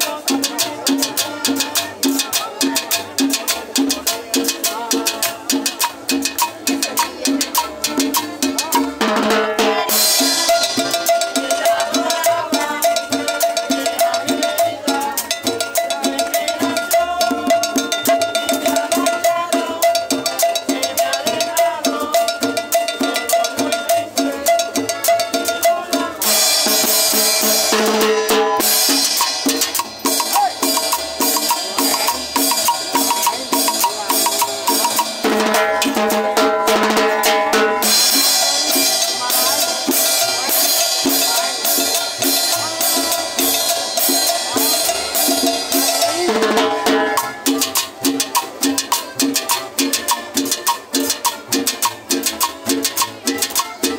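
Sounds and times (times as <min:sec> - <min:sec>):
cumbia band playing: 0:00.0 - 0:53.9
percussion beat: 0:00.0 - 0:53.9.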